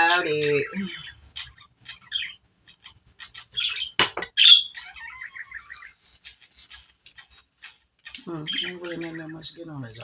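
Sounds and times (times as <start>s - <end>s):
small bird chirping and squawking: 0.0s - 10.0s.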